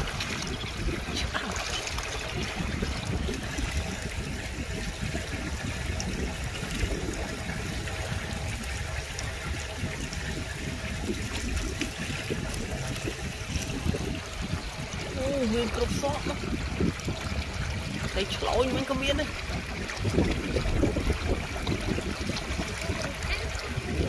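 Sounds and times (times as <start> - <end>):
water flowing over concrete: 0.0 - 24.0.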